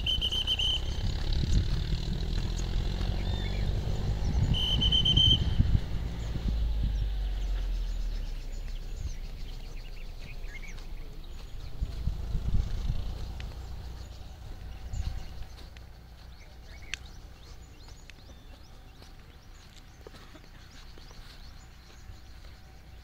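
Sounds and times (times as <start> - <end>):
low rumble: 0.0 - 20.0
bird chirps: 0.0 - 23.0.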